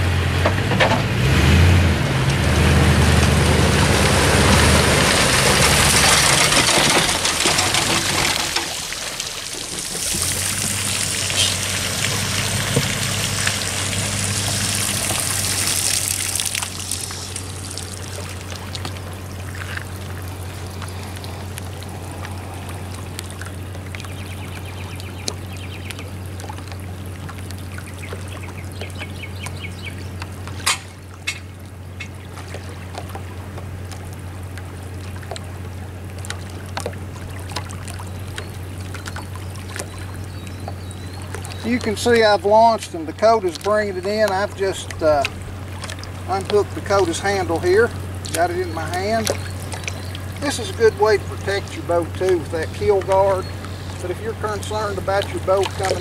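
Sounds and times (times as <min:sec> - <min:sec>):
waves lapping on gravel: 0:02.0 - 0:56.0.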